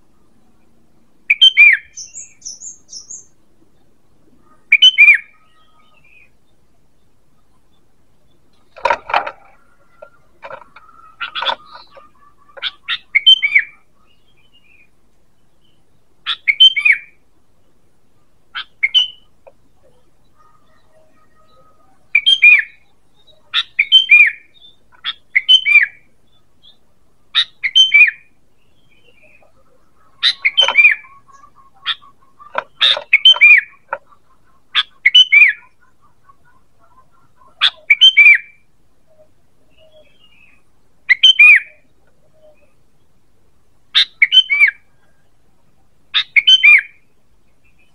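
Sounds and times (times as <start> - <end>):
bulbul bird calling: 0.0 - 47.9.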